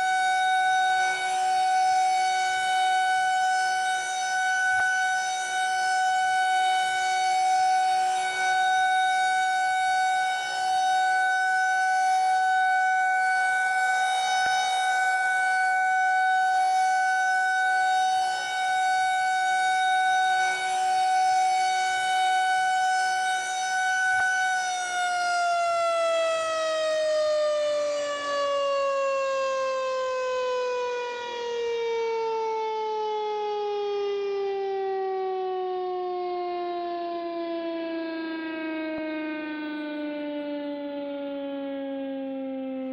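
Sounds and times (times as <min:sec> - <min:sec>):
outdoor warning siren: 0:00.0 - 0:42.9.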